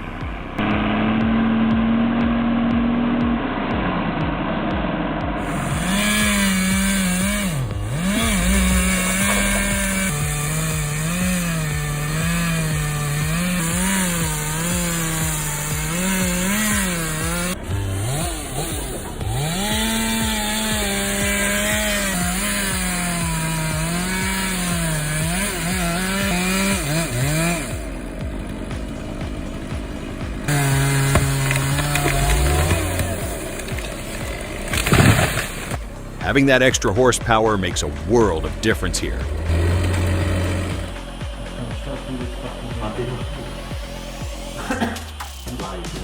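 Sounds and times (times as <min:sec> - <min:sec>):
chainsaw running: 0:00.0 - 0:46.0.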